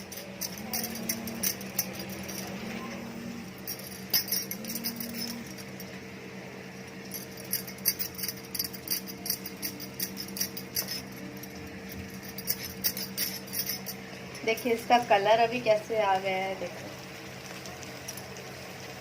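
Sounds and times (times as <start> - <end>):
low kitchen hum: 0.0 - 19.0.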